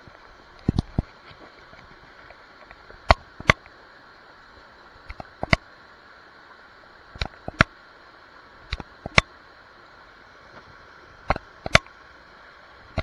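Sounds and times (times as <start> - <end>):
waterfall rushing into pool: 0.0 - 13.0.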